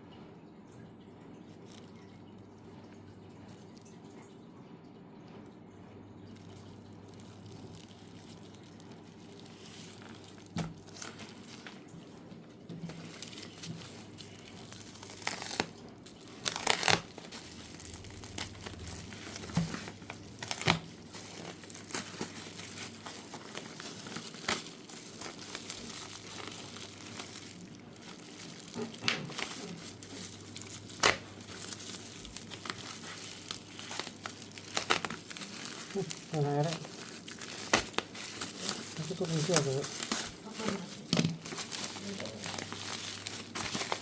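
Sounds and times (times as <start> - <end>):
packaging crinkling and tearing: 6.2 - 44.0.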